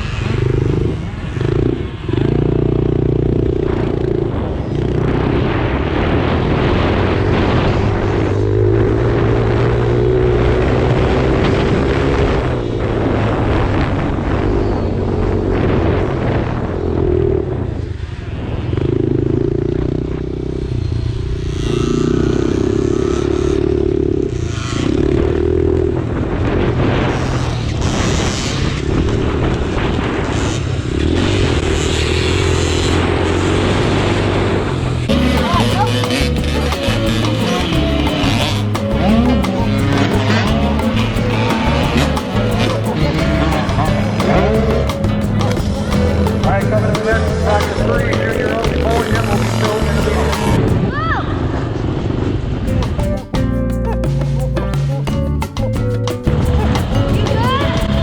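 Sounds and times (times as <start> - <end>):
dirt bike engines revving: 0.0 - 51.1.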